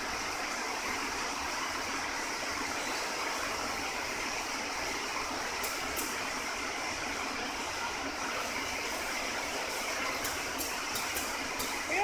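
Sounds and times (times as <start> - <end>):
steady workshop hiss: 0.0 - 12.0.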